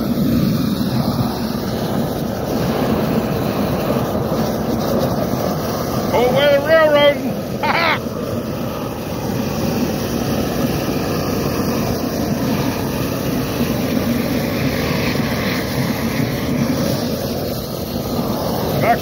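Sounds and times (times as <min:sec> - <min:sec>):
propane torch rushing: 0:00.0 - 0:19.0.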